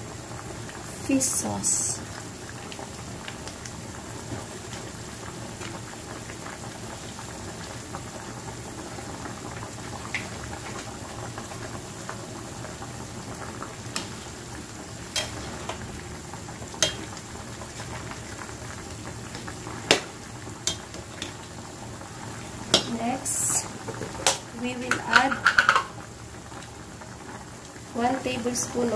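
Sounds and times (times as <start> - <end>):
soup boiling and bubbling: 0.0 - 28.9.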